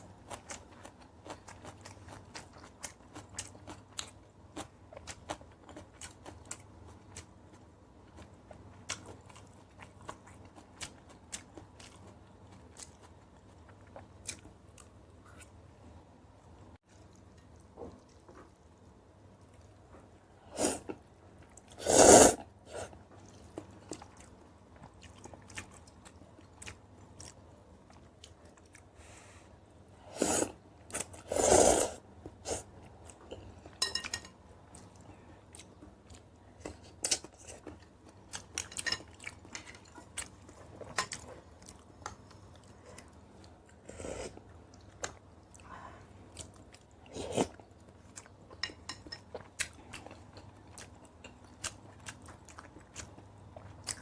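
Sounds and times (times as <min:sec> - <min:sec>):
person chewing and crunching food: 0:00.0 - 0:15.6, 0:20.6 - 0:29.0, 0:30.4 - 0:54.0.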